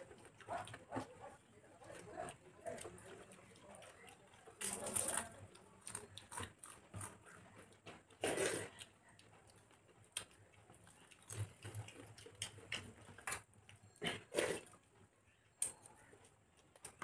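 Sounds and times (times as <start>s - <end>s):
wet chewing and lip smacking: 0.0s - 17.0s.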